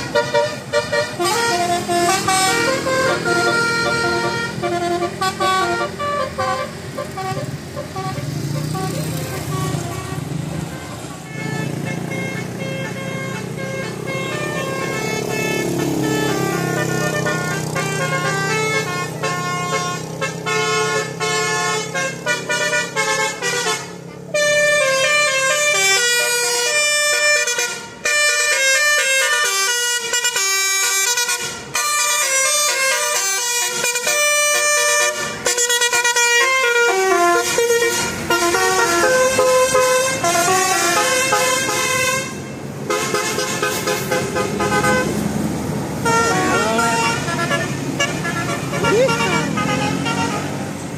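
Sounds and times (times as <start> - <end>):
multi-tone air horn melody: 0.0 - 45.3, 45.9 - 50.7.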